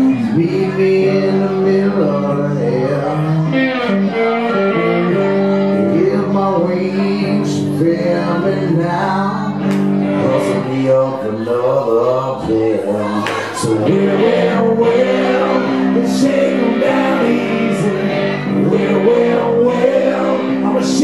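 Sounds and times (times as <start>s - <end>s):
electric guitar playing blues: 0.0s - 21.0s
man singing: 0.0s - 21.0s.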